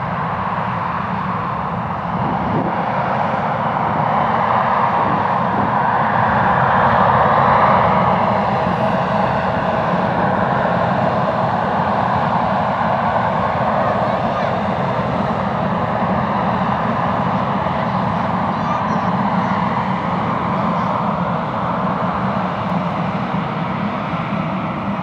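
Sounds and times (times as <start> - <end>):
airliner engines roaring: 0.0 - 25.0.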